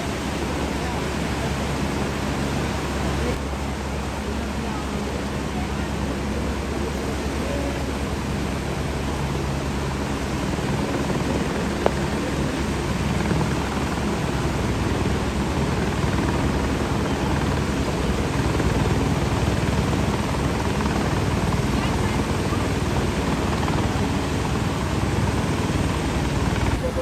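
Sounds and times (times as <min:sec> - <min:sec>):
floodwater rushing: 0:00.0 - 0:27.0
low helicopter drone: 0:00.0 - 0:27.0.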